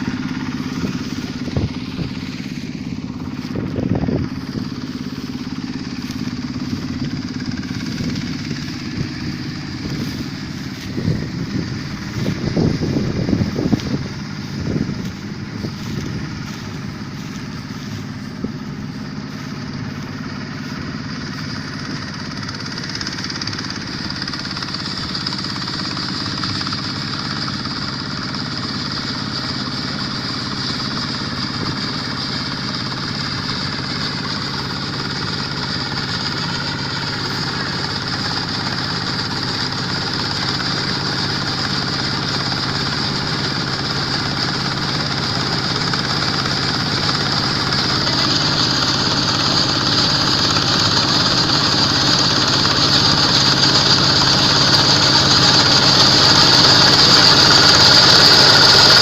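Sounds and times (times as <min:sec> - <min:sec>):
diesel engine running: 0:00.0 - 0:59.0
high machinery whine: 0:00.0 - 0:59.0.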